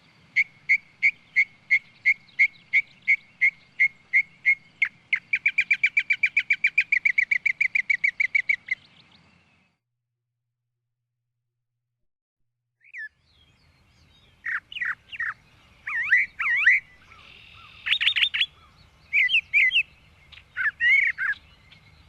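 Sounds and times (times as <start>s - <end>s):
songbird whistling: 0.0s - 9.8s, 12.8s - 22.0s.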